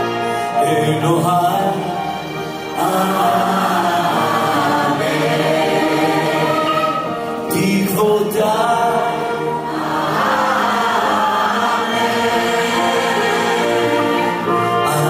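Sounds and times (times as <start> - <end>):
orchestral strings: 0.0 - 15.0
piano: 0.0 - 15.0
choir singing held notes: 2.8 - 15.0.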